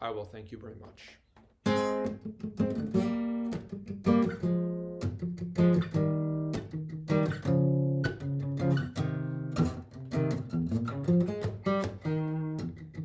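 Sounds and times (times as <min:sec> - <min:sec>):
acoustic guitar chords: 0:01.6 - 0:13.0.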